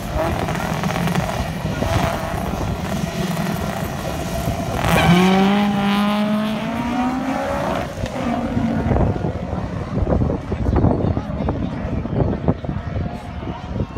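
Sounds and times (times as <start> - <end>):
race car engines revving: 0.0 - 13.9.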